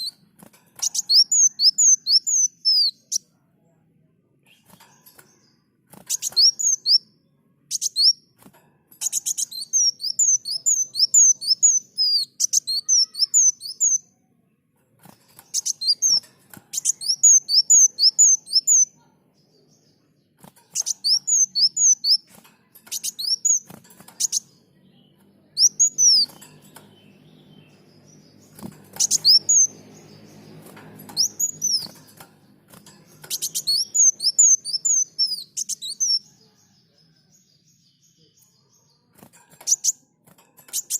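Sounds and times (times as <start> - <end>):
sunbird singing: 0.8 - 3.4, 4.5 - 8.4, 9.0 - 14.3, 15.3 - 40.1.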